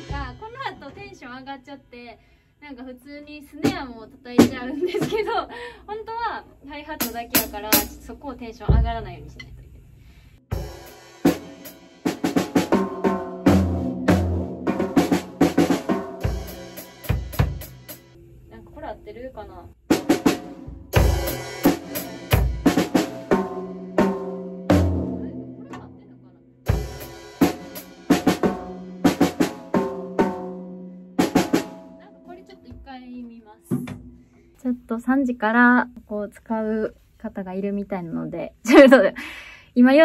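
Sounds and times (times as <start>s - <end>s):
drum kit practice: 0.0s - 1.7s, 3.4s - 5.8s, 6.5s - 18.2s, 19.7s - 36.1s.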